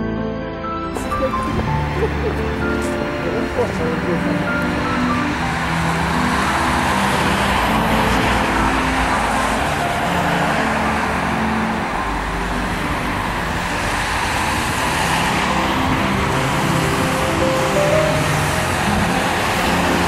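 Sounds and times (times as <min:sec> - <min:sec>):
cars driving by: 0:00.9 - 0:20.0.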